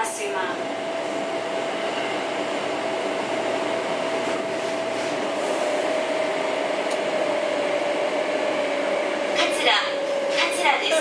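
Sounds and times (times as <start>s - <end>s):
steady train whine: 0.0s - 11.0s
wheels rumbling on track: 0.0s - 11.0s.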